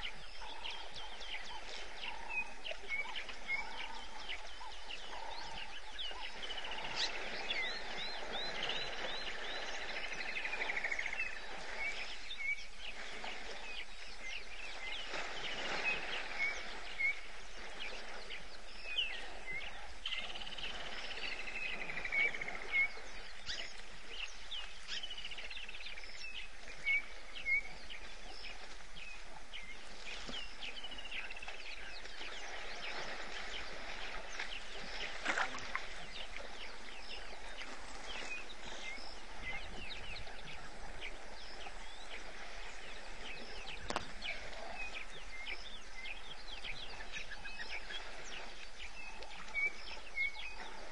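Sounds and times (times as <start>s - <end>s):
whistled bird song: 0.0s - 50.9s.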